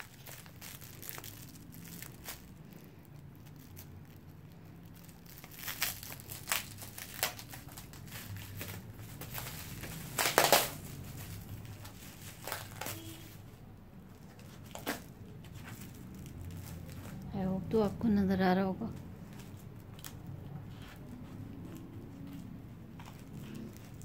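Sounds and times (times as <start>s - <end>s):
plastic bag crinkling: 0.0s - 17.7s, 22.2s - 24.0s.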